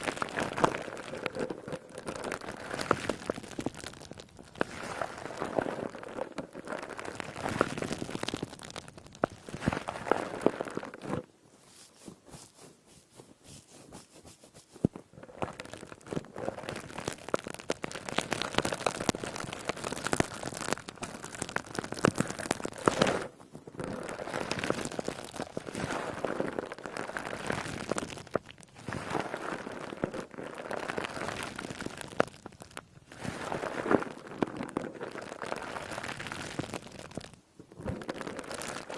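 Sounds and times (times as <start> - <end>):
sponge crackling when squeezed: 0.0 - 38.9.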